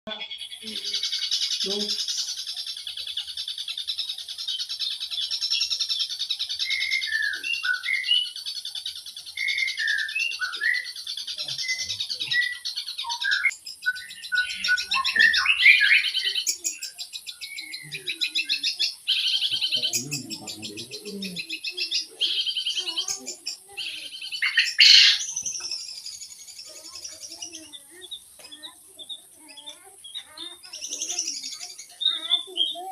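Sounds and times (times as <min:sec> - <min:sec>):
shrike singing chattering trills: 0:00.1 - 0:32.9
whistled bird notes: 0:00.6 - 0:20.6, 0:21.3 - 0:32.9.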